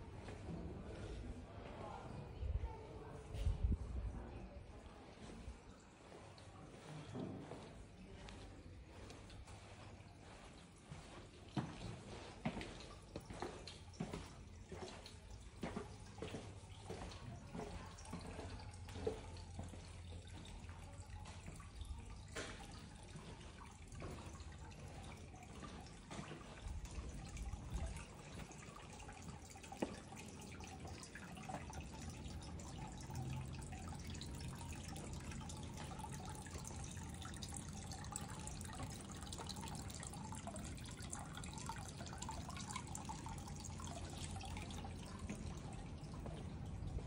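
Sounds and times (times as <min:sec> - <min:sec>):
water trickling and dripping: 0:00.0 - 0:47.0.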